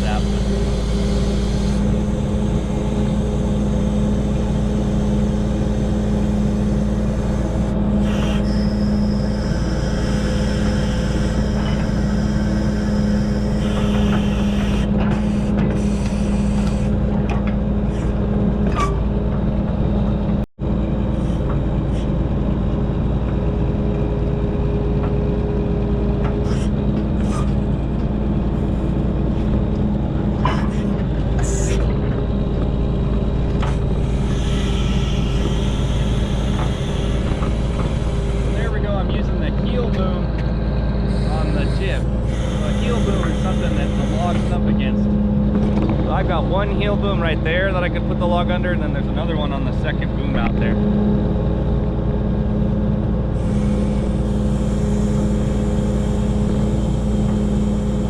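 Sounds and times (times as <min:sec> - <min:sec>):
diesel truck engine humming: 0:00.0 - 0:58.0.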